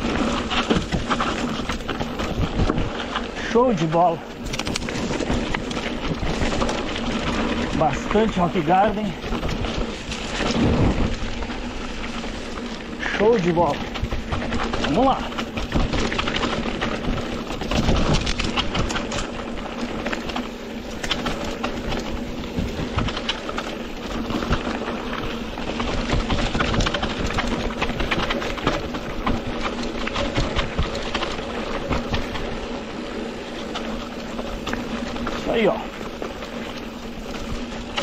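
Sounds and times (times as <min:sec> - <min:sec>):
bike knocking and rattling: 0:00.0 - 0:38.0
bike tyres rushing on dirt trail: 0:00.0 - 0:38.0.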